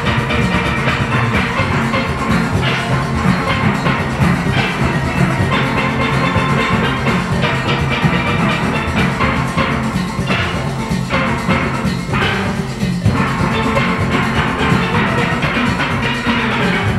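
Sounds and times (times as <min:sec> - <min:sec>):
drums and percussion: 0:00.0 - 0:16.9
steelpan orchestra playing calypso: 0:00.0 - 0:16.9.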